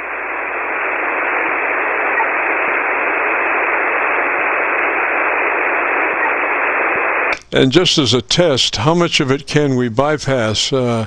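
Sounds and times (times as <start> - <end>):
radio static hiss: 0.0 - 9.4.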